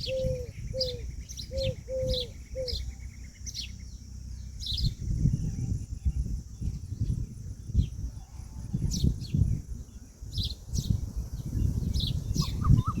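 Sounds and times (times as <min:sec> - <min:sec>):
insect drone: 0:00.0 - 0:12.4
small birds chirping: 0:00.0 - 0:13.0.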